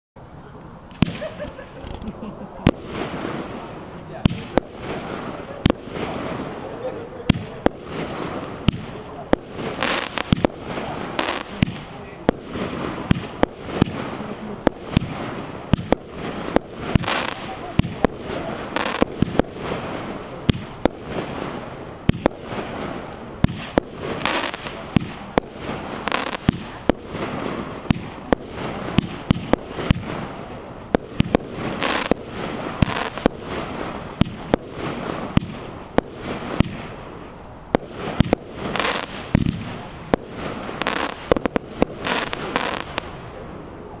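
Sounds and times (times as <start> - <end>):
firework hiss: 0.4 - 44.0
firework bangs: 0.9 - 44.0.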